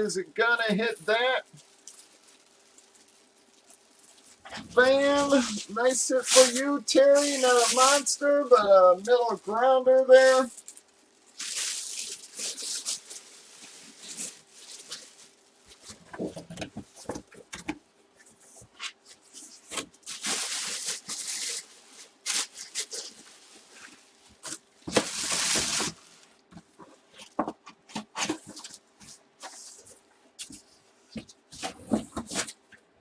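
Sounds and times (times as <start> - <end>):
plastic packing crinkling: 1.1 - 32.9.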